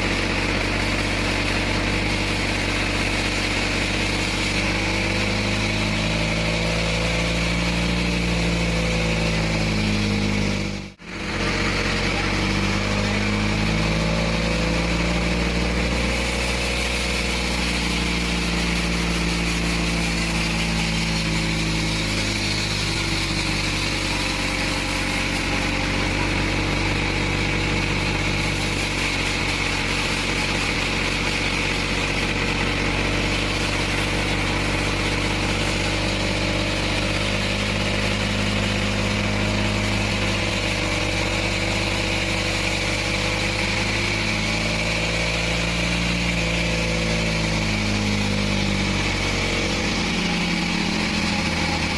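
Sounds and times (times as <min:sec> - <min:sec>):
bandsaw sawmill engine running: 0:00.0 - 0:51.9.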